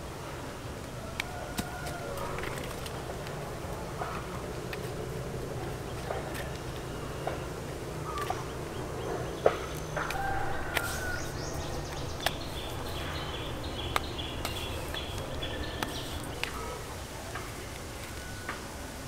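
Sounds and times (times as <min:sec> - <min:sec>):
bird calls: 0:01.0 - 0:19.0.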